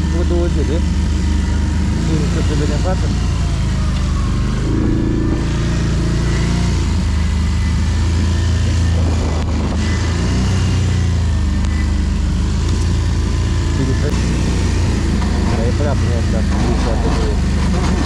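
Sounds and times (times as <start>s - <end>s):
atv engine running under load: 0.0s - 18.0s.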